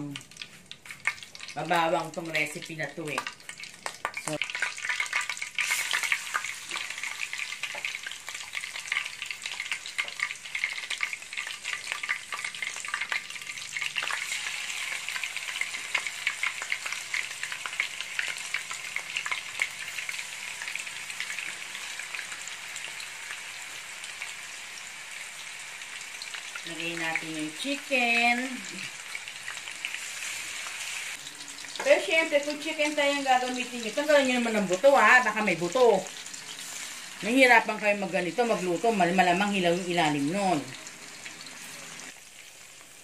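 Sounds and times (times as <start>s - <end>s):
chicken sizzling in hot oil: 0.0s - 43.0s.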